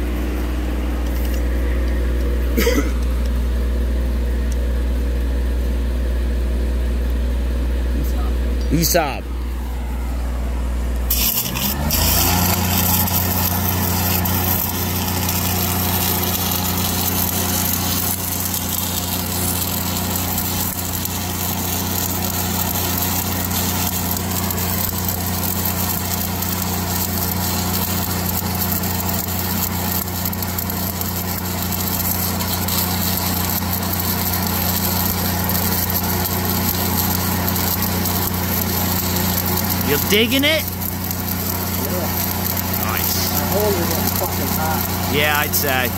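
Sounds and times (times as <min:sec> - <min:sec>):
welding arc crackling hiss: 0:00.0 - 0:03.6, 0:08.2 - 0:45.9
welder engine humming: 0:00.0 - 0:45.9.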